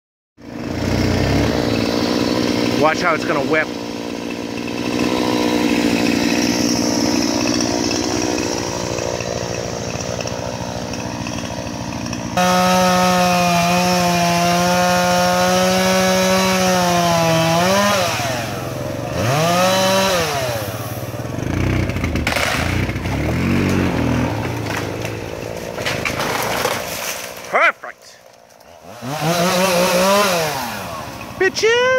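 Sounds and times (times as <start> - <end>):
chainsaw cutting: 0.4 - 31.9.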